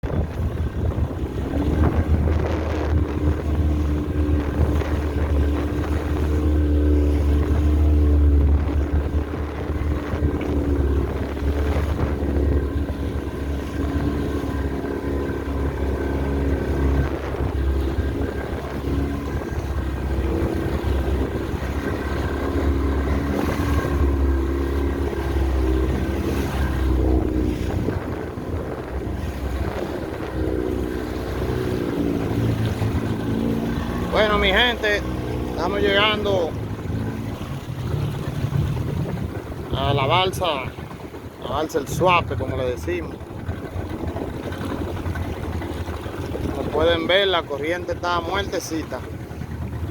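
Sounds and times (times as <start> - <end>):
motorboat engine running: 0.0 - 49.9.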